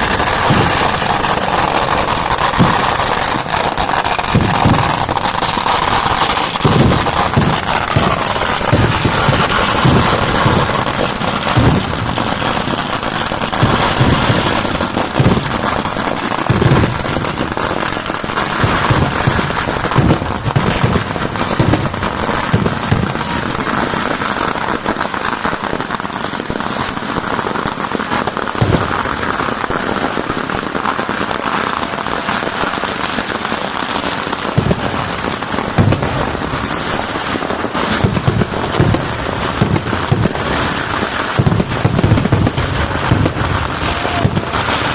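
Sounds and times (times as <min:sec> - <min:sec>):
deep fireworks booms: 0:00.0 - 0:44.9
firecrackers crackling: 0:00.0 - 0:44.9.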